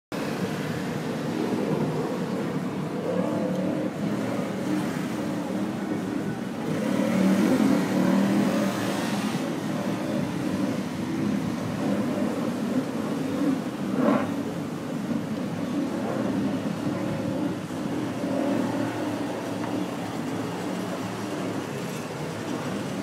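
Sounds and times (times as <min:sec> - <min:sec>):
speedboat engines droning: 0:00.1 - 0:23.0.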